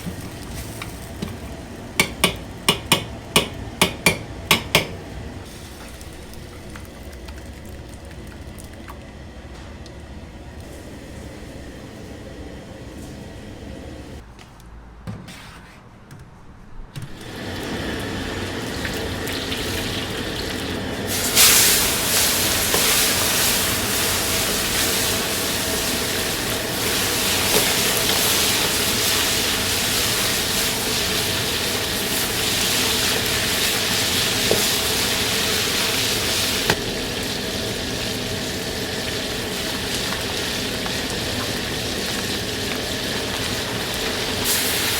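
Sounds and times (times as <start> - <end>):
kitchen cooking hiss: 0.0 - 14.2, 17.1 - 44.9.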